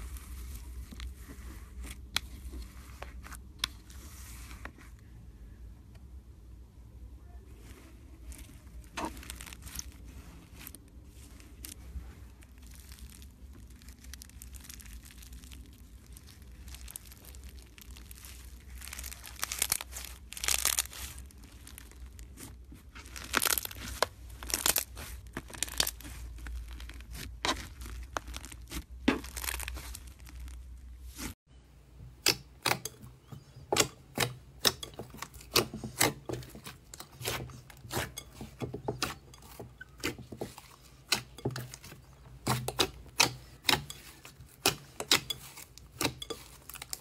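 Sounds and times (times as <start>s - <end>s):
foam bead slime crackling: 0.0s - 4.9s, 7.6s - 31.4s, 32.2s - 47.0s.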